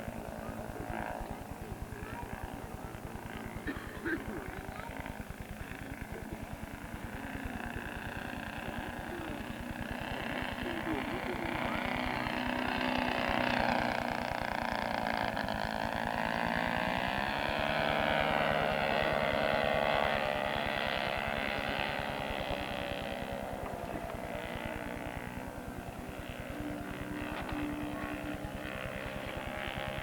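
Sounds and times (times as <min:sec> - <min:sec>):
model aircraft engines in flight: 0:00.0 - 0:30.0.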